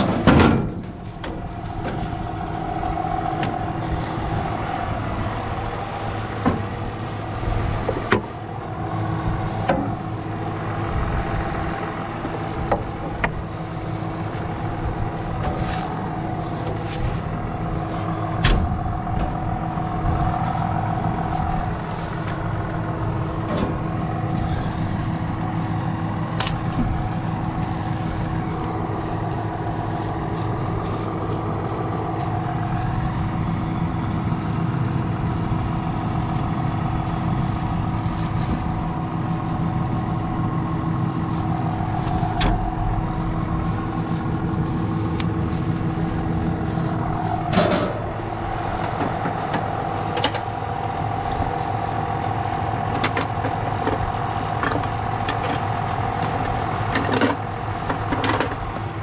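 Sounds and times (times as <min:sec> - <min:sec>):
steady machinery tone: 0:00.0 - 0:59.0
tractor diesel idling: 0:00.0 - 0:59.0.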